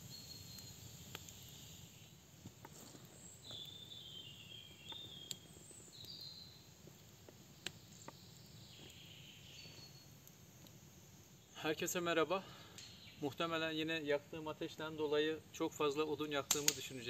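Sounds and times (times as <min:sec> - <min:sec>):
campfire crackling and popping: 0:00.0 - 0:14.9, 0:15.9 - 0:17.0.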